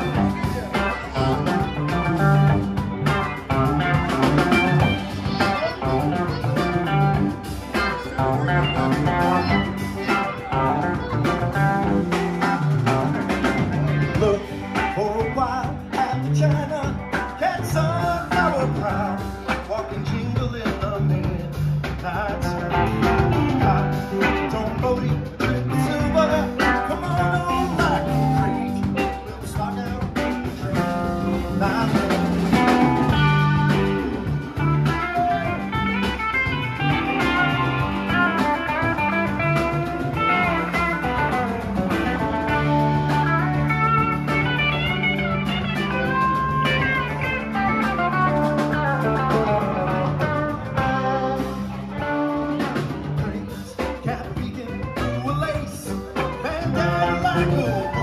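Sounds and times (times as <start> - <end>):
electric guitar melody: 0.0 - 58.0
live rock band playing: 0.0 - 58.0.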